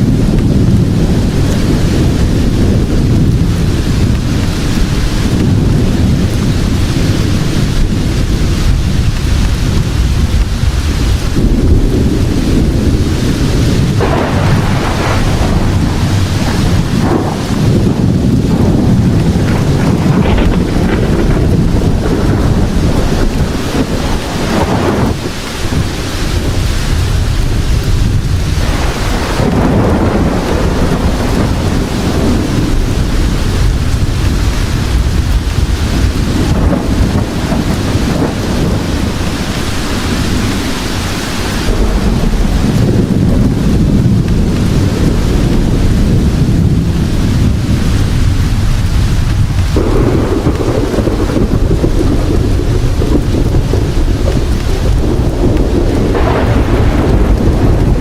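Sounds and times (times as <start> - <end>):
deep rolling thunder: 0.0 - 58.0
steady rain hiss: 0.0 - 58.0.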